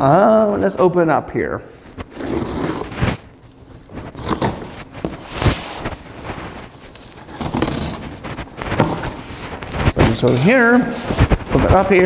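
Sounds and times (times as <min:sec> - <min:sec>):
cardboard scraping and rustling: 0:01.7 - 0:12.0
scissors cutting packing tape: 0:01.8 - 0:11.9.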